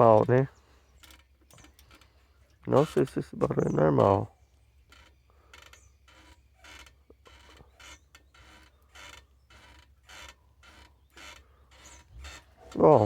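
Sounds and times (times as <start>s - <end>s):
motorcycle swingarm creaking: 0.0s - 13.0s.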